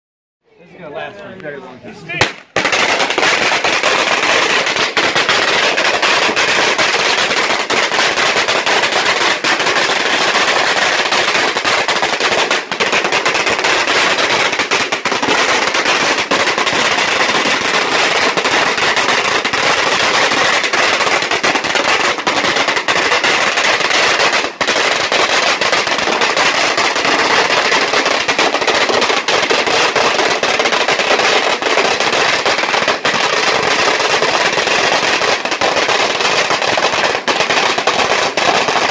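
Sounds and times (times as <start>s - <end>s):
firecrackers rattling: 2.0s - 38.9s.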